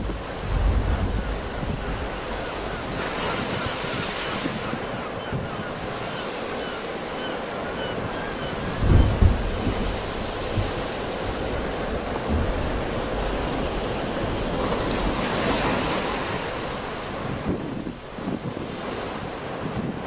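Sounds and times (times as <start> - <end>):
sea waves washing onto shore: 0.0 - 20.0
wind buffeting microphone: 0.0 - 20.0.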